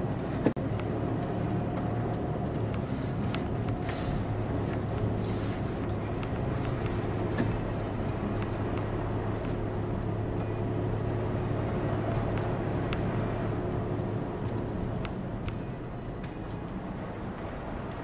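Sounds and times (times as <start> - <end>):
car engine running: 0.0 - 18.0
tyre and road noise: 0.0 - 18.0.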